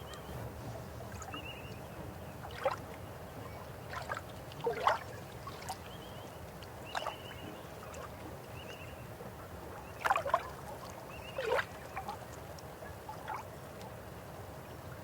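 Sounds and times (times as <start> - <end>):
river water flowing: 0.0 - 15.0
gurgling water splashes: 2.2 - 15.0.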